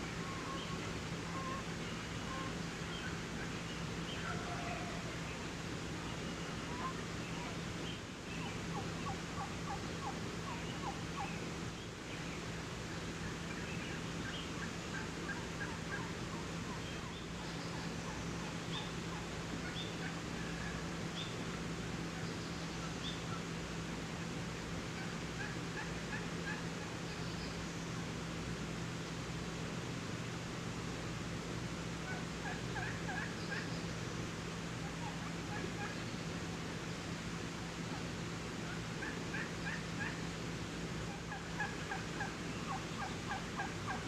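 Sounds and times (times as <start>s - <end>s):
turkeys calling: 0.0s - 7.6s, 8.4s - 11.5s, 12.1s - 23.6s, 24.9s - 27.6s, 31.7s - 36.4s, 37.6s - 40.4s, 41.0s - 44.0s
background hiss: 0.0s - 44.0s.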